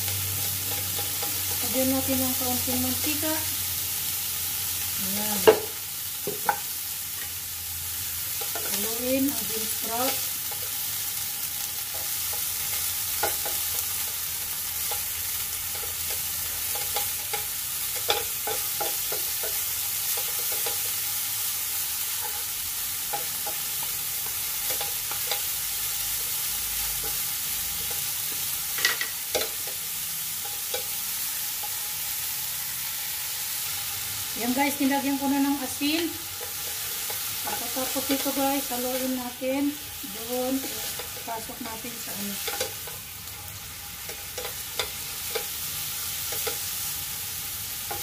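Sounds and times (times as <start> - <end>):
bean sprouts sizzling in a wok: 0.0 - 48.0.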